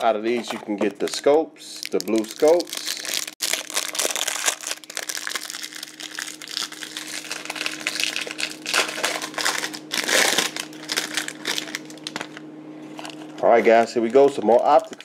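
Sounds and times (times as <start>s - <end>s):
faint steady hum: 0.0s - 15.0s
plastic wrapping crinkling: 0.0s - 15.0s.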